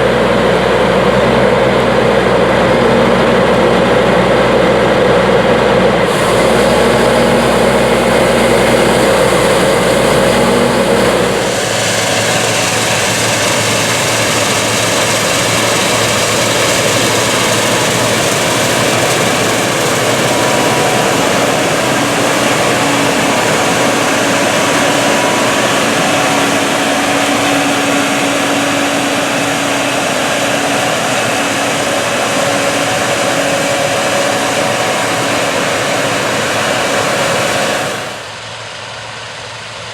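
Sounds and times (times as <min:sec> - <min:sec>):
combine harvester droning: 0:00.0 - 0:39.9
hissy high machine noise: 0:05.8 - 0:39.9.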